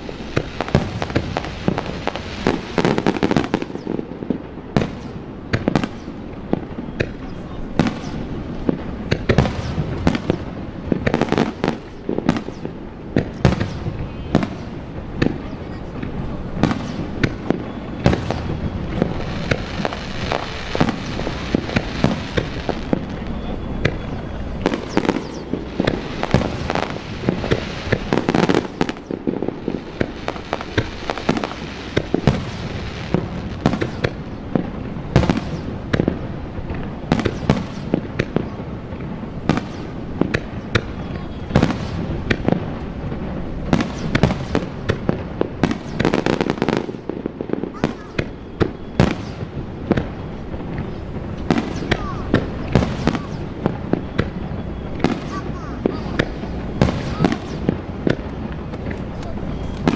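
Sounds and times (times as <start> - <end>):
fireworks bursting with bangs: 0.0 - 59.9.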